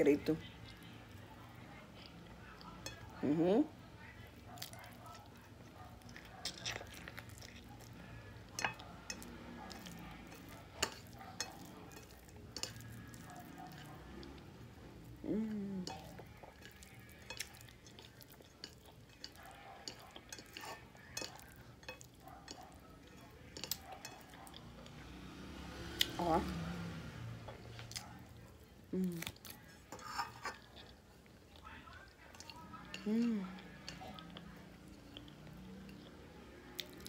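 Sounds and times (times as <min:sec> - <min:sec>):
chewing: 0:00.6 - 0:03.2, 0:04.0 - 0:37.0.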